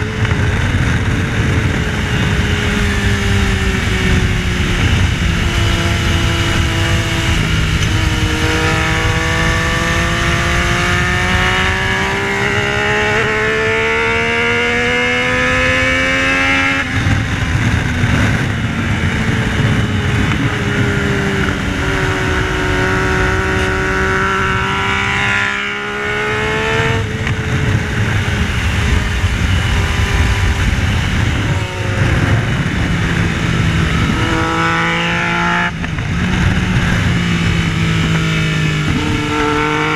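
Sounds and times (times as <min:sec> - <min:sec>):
motorcycle engine at speed: 0:00.0 - 0:39.9
wind rush: 0:00.0 - 0:39.9.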